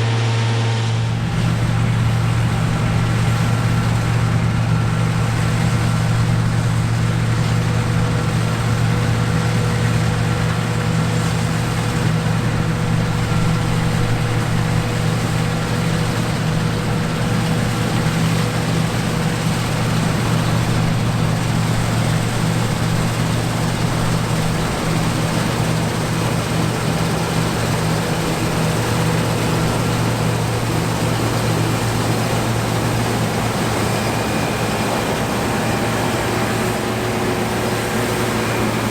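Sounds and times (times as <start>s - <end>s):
combine harvester drone: 0.0s - 38.9s.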